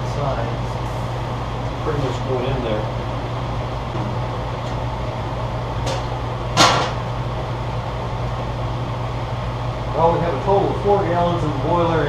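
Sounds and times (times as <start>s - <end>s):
propane burner running: 0.0s - 12.0s.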